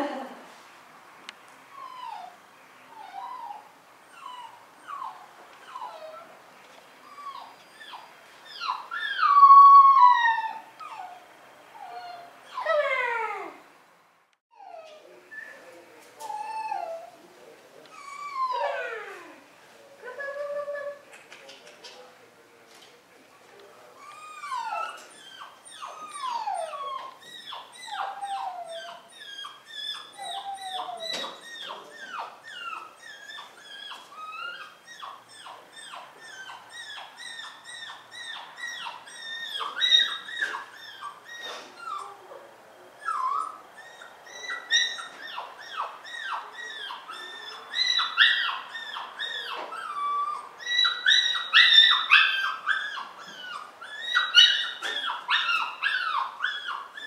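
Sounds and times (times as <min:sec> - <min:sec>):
puppy whining and yelping: 0:01.7 - 0:06.3, 0:07.0 - 0:13.6, 0:14.5 - 0:15.1, 0:16.2 - 0:17.2, 0:17.9 - 0:19.4, 0:24.0 - 0:42.4, 0:43.0 - 0:57.0.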